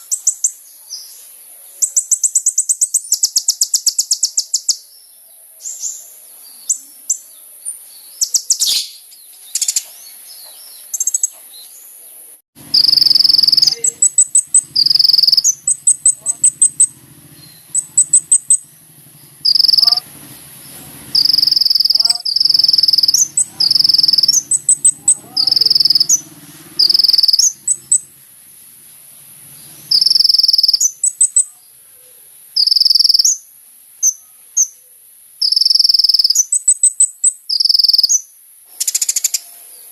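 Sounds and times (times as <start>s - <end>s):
bird chirping and trilling: 0.0s - 11.7s, 12.6s - 28.6s, 29.4s - 39.9s.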